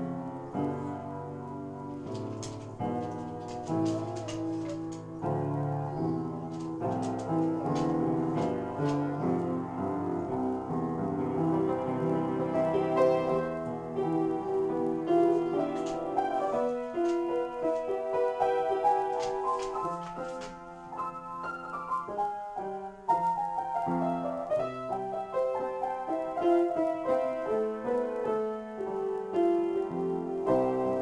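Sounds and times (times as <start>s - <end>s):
upright piano playing: 0.0s - 31.0s.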